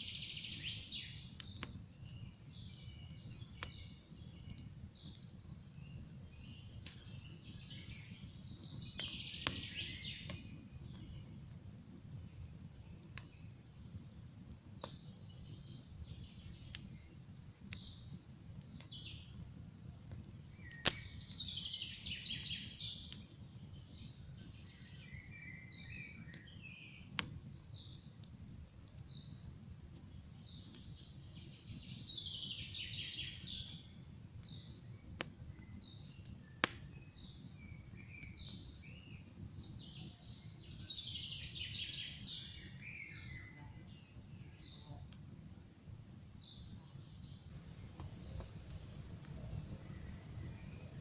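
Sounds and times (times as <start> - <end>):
campfire crackling and popping: 0.0 - 51.0
forest birdsong: 0.0 - 51.0.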